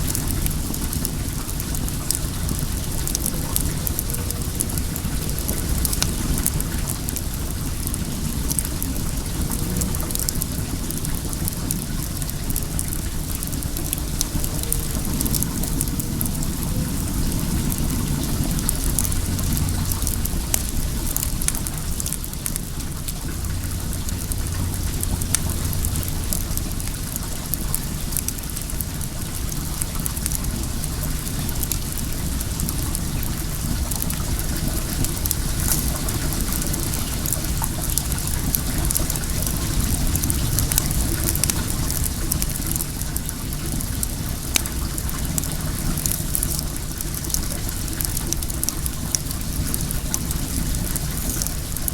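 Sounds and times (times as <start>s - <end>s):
flowing water rushing: 0.0s - 51.9s
wood fire crackling and popping: 0.0s - 51.9s.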